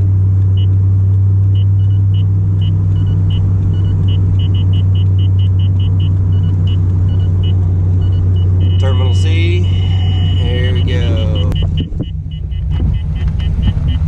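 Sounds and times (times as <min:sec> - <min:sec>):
car engine drone: 0:00.0 - 0:14.0
road noise: 0:00.0 - 0:14.0
short high beeps: 0:01.6 - 0:14.0.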